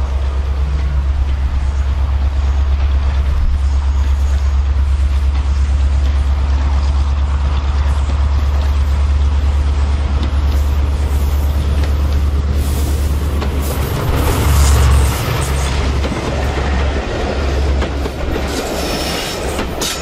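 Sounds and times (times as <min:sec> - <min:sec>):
locomotive diesel engine throbbing: 0:00.0 - 0:18.5.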